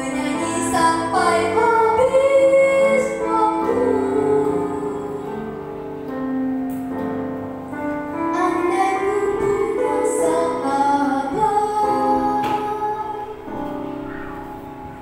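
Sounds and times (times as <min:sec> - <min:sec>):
girl singing into a microphone: 0:00.0 - 0:06.1, 0:07.9 - 0:14.5
instrumental accompaniment: 0:00.0 - 0:15.0.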